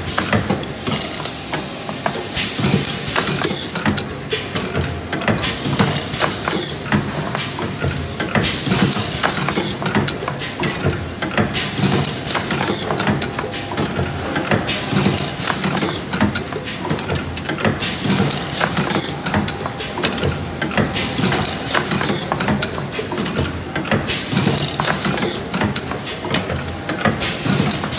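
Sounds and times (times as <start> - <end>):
machine clicking and clattering: 0.0 - 27.9.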